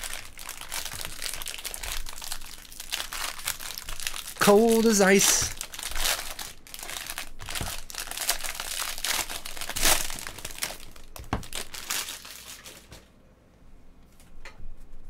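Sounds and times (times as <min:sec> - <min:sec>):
foil wrapper crinkling and tearing: 0:00.0 - 0:13.1.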